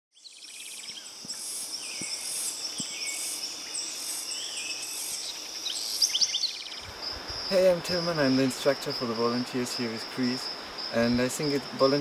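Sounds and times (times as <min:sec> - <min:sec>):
birds chirping and calling: 0:00.2 - 0:12.0
insects trilling: 0:00.2 - 0:12.0.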